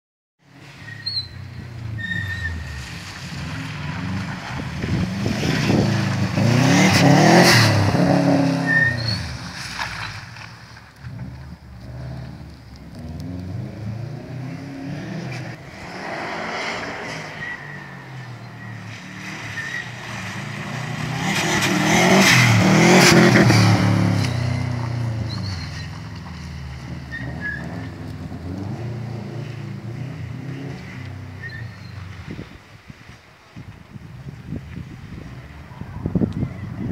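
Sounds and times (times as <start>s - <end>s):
rally car engine revving: 1.7s - 10.1s, 11.0s - 32.2s.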